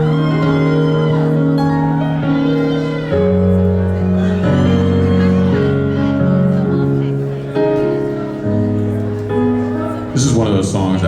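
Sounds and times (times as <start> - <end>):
live band playing slow chords: 0.0 - 11.0.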